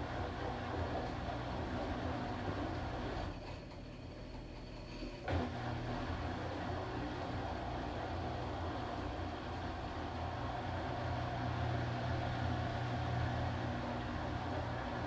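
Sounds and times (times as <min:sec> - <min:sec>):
washing machine humming: 0:00.8 - 0:15.0.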